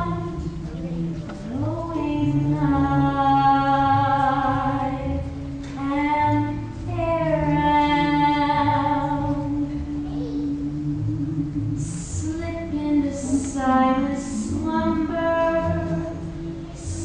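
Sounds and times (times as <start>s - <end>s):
low held note accompaniment: 0.0s - 17.0s
pulsing bass: 0.0s - 17.0s
voices singing held notes: 0.0s - 17.0s.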